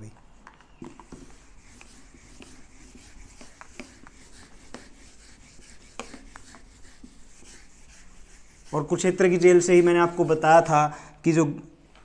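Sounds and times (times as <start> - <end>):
eraser wiping a whiteboard: 0.8 - 10.8.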